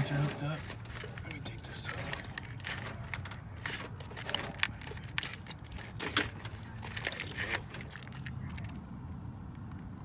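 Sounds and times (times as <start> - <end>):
parts clicking and knocking: 0.0 - 8.8.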